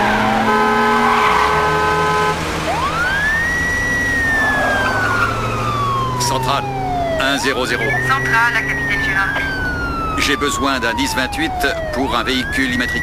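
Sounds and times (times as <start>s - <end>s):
car rumble: 0.0s - 13.0s
police siren wailing: 0.0s - 13.0s.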